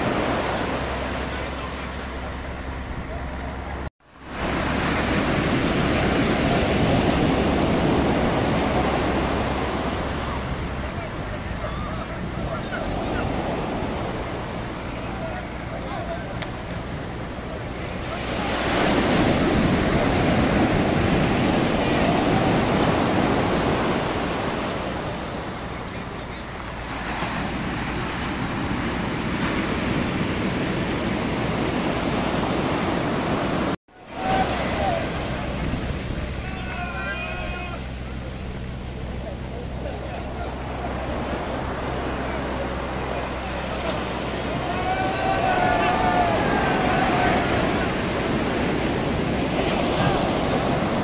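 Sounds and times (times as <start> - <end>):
ocean surf washing around hull: 0.0 - 51.0
waves breaking on sand: 0.0 - 51.0.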